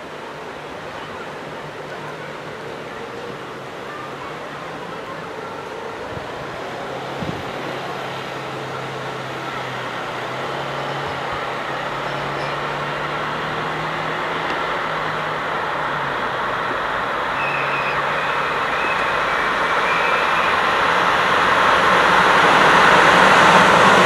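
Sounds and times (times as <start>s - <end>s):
freight train rolling rumble: 0.0s - 24.0s
locomotive low hum: 0.0s - 24.0s.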